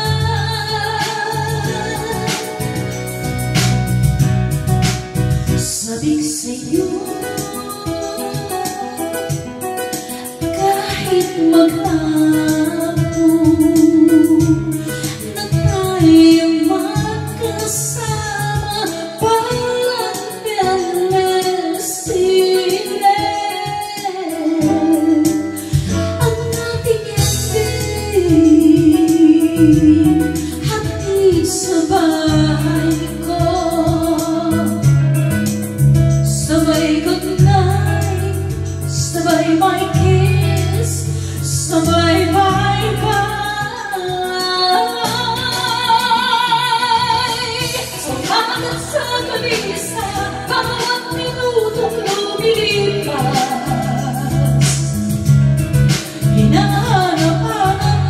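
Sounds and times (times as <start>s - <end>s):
karaoke backing track: 0.0s - 58.0s
woman singing karaoke: 0.0s - 58.0s.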